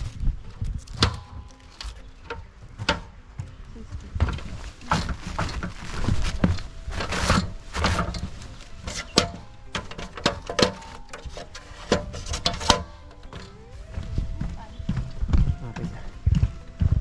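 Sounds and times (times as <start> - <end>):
footsteps on bush trail: 0.0 - 17.0
rustling: 0.0 - 17.0.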